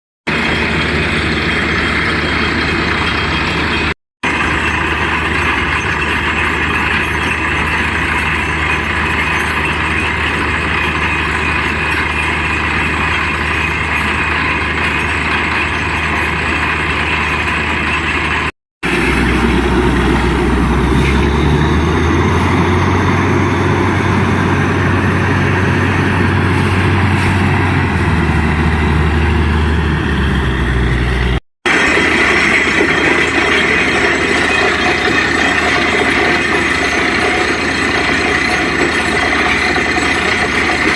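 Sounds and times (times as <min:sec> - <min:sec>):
heavy truck engine running: 0:00.3 - 0:40.9.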